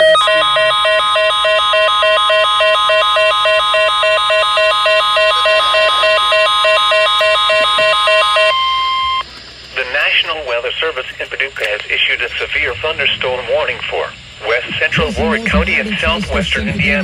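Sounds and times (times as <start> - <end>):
pulsing alarm beeps: 0.0 - 9.3, 12.4 - 17.0
steady warning tone: 0.0 - 17.0.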